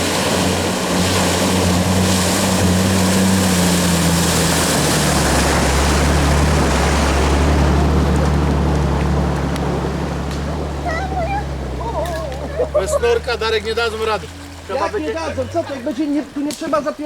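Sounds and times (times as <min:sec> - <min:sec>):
engine running under load: 0:00.0 - 0:16.9
water rushing and splashing: 0:00.0 - 0:17.0.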